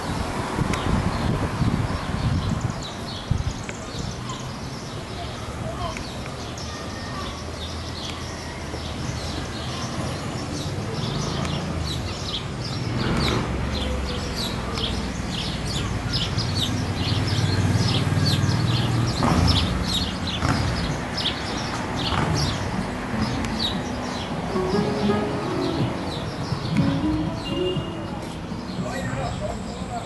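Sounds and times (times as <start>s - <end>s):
low traffic rumble: 0.0s - 30.0s
small birds chirping: 0.7s - 30.0s.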